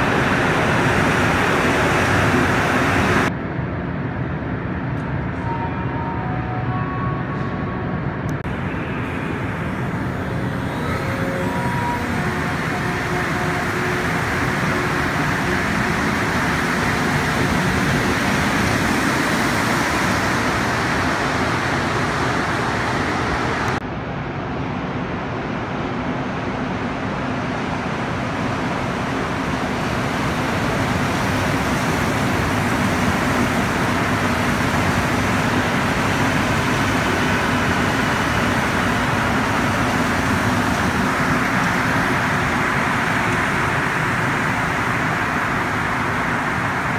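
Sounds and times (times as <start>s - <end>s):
rubber-tyred subway train running: 0.0s - 46.9s
train running past platform: 0.0s - 46.9s.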